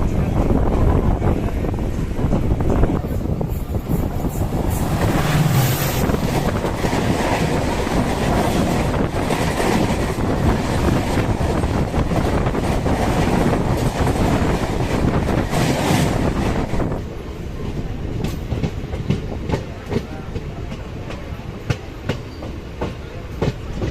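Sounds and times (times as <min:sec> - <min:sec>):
train rumble: 0:00.0 - 0:23.9.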